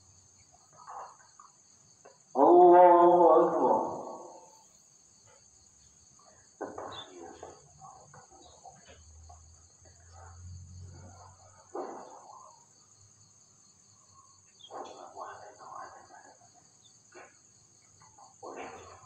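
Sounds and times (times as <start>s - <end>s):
crickets trilling: 0.0s - 19.0s
faint muffled sounds: 0.0s - 19.0s.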